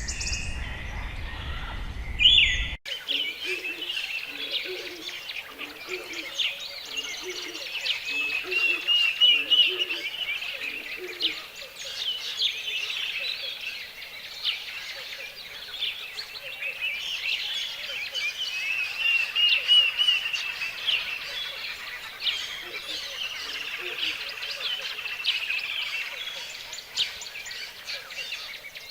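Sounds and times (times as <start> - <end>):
birds singing and chirping: 0.0 - 28.9.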